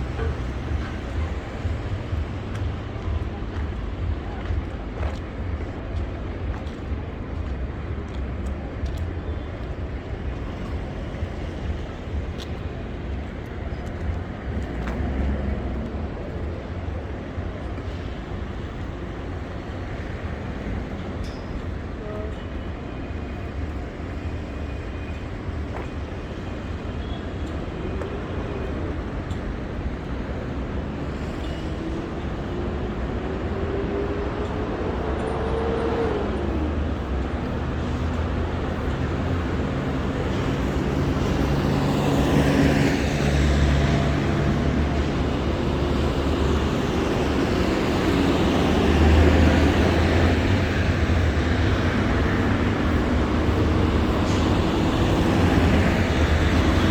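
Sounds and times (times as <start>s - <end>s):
vehicle engines passing: 0.0s - 56.9s.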